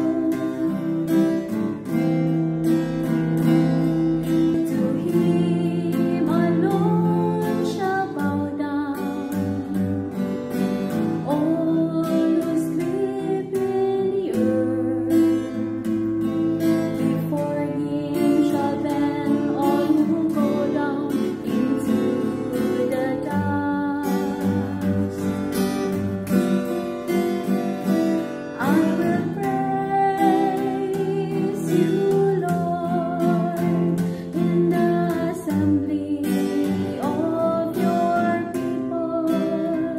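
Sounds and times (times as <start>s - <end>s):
person singing: 0.0s - 1.8s, 4.2s - 10.2s, 11.1s - 26.1s, 27.9s - 39.9s
acoustic guitar strumming: 0.0s - 39.9s.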